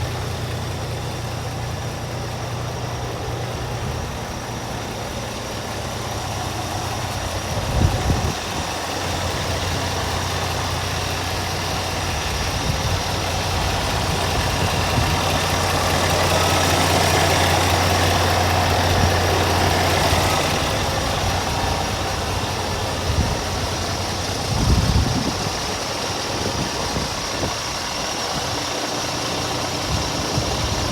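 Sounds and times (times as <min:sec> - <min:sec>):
diesel truck engine idling: 0:00.0 - 0:30.9.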